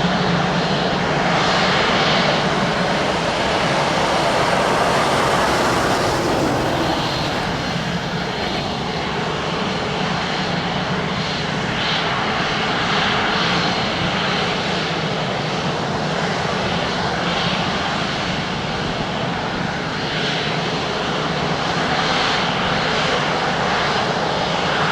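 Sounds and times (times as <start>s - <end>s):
jet engines running: 0.0s - 24.8s.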